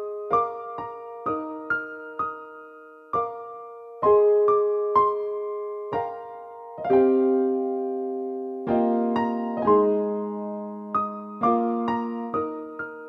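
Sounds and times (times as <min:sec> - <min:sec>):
slow electric piano chords: 0:00.0 - 0:13.0.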